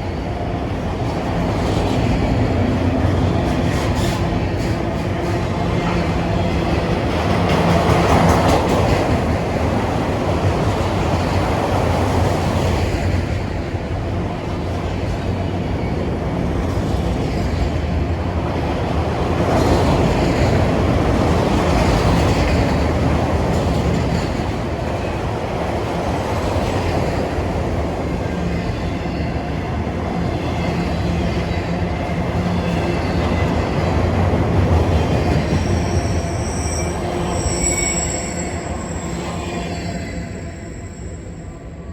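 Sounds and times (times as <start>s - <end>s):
freight train cars rolling past: 0.0s - 41.9s.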